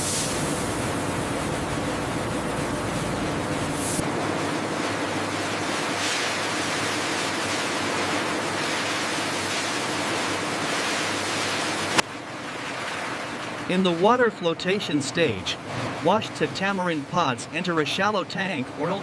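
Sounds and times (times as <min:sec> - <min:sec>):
water jetting from spray washer: 0:00.0 - 0:19.0.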